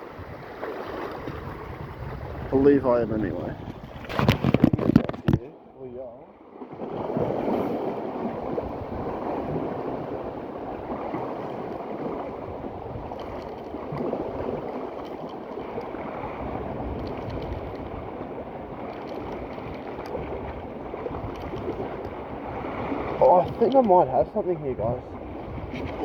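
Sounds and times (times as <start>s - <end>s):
wind on microphone: 0.0s - 5.4s, 6.8s - 26.0s
waves washing: 0.0s - 26.0s.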